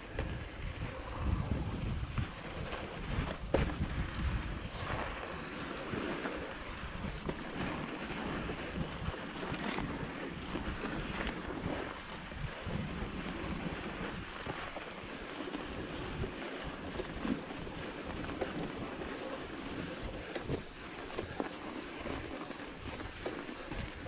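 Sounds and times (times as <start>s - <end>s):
tyres on snow: 0.0s - 24.0s
wind noise on microphone: 0.0s - 24.0s
bike clicks and rattles: 2.1s - 24.0s.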